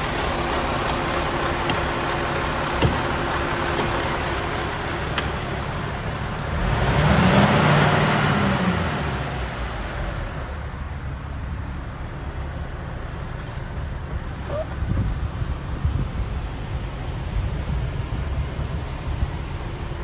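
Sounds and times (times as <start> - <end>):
truck diesel engine running: 0.0 - 18.4.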